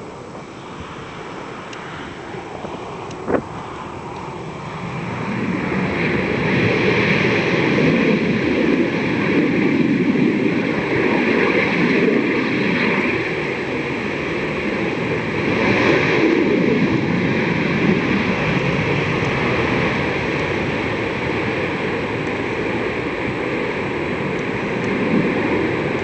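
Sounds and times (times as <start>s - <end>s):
jet fighter roar: 0.0s - 26.0s.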